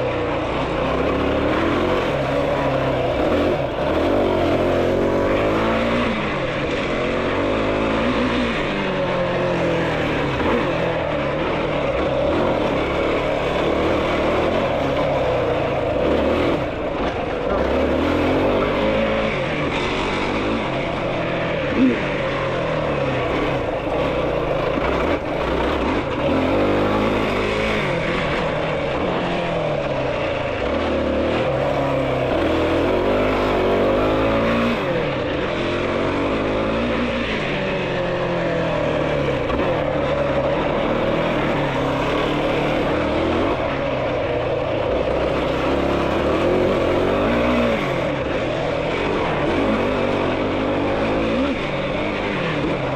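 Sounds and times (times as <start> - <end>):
constant rushing noise: 0.0 - 52.9
engine revving hard: 0.6 - 52.9.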